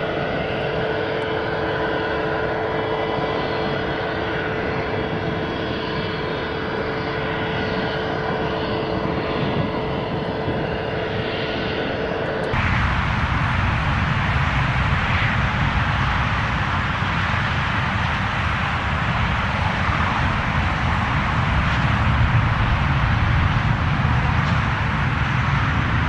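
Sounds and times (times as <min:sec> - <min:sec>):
jet engine rush: 0:00.0 - 0:26.0.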